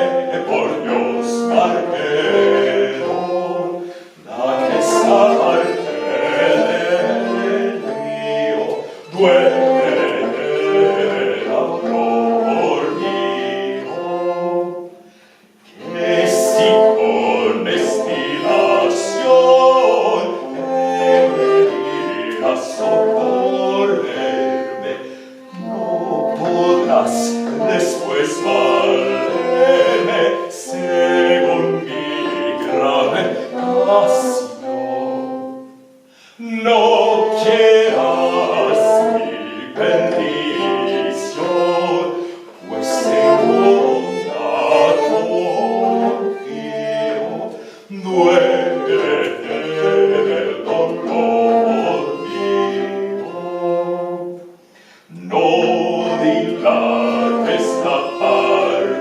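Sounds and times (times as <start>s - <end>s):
person singing: 0.0s - 14.7s, 15.7s - 35.5s, 36.3s - 54.4s, 55.1s - 59.0s
bowed strings: 0.0s - 14.9s, 15.7s - 35.7s, 36.6s - 54.5s.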